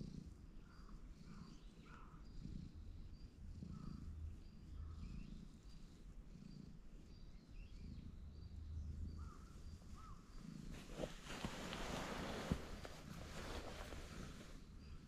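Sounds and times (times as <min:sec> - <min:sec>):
cat purring: 0:00.0 - 0:15.0
faint bird chirps: 0:00.5 - 0:15.0.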